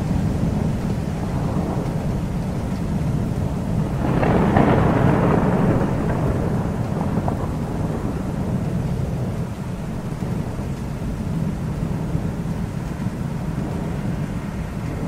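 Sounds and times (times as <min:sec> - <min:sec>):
rain: 0:00.0 - 0:15.0
thunder rumbling: 0:00.0 - 0:15.0.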